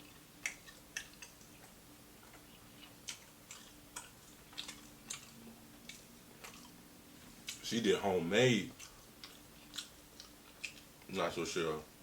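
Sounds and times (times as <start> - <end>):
chewing crispy food: 0.0 - 11.3
faint steady hum: 0.0 - 12.0.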